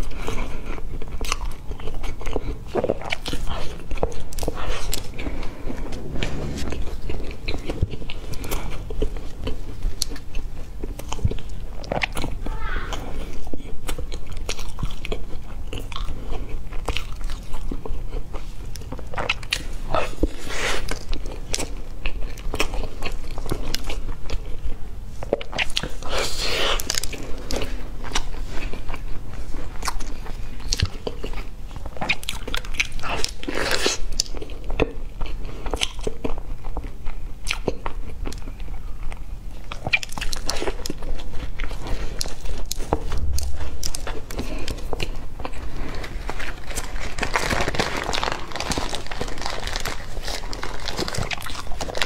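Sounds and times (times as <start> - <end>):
crunchy pastry biting and chewing: 0.0 - 52.0.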